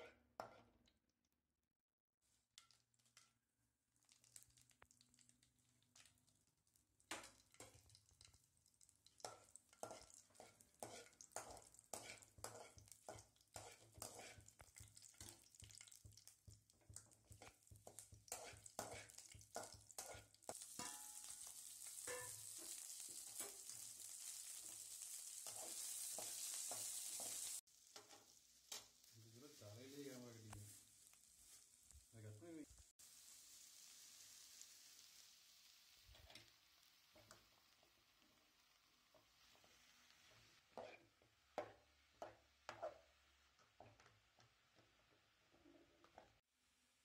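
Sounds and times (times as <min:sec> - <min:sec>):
chillies crackling in hot oil: 0:02.2 - 0:47.0
oil sizzling hiss: 0:03.8 - 0:47.0.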